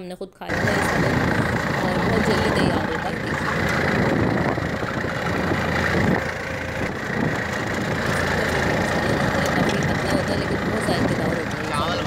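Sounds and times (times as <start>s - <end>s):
boat engine droning: 0.5s - 12.0s.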